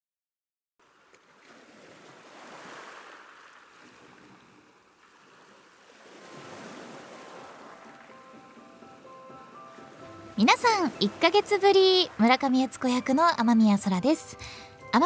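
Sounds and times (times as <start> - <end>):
ocean waves washing in: 0.8 - 13.5.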